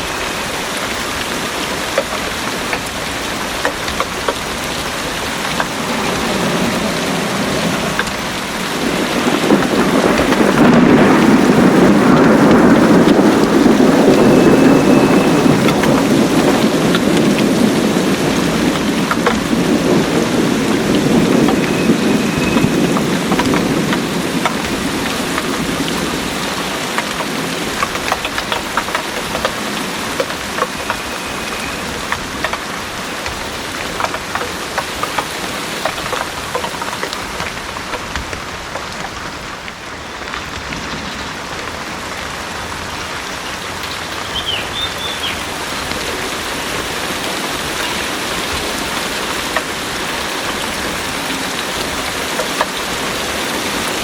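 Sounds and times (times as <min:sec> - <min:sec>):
heavy rain pouring: 0:00.0 - 0:54.0
raindrops ticking close by: 0:00.0 - 0:54.0
thunder rumbling: 0:00.0 - 0:54.0.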